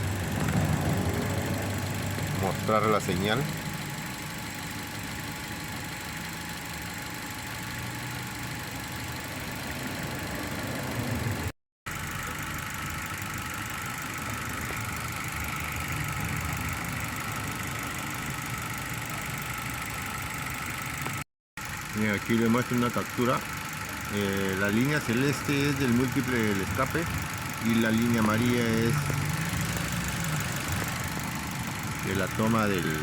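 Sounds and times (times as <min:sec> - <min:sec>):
engine idling with misfires: 0:00.0 - 0:33.0.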